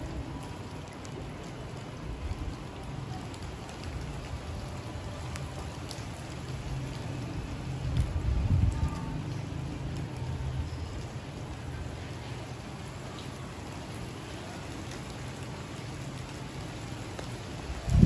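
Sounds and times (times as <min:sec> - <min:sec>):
rain on wet pavement: 0:00.0 - 0:18.0.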